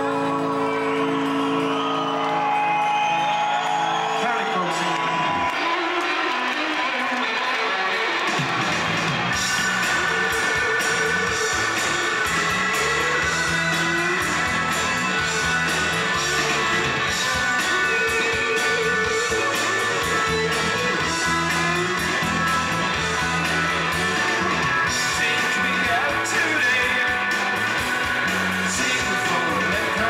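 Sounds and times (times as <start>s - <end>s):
electric guitar: 0.0s - 30.0s
live rock band playing: 0.0s - 30.0s.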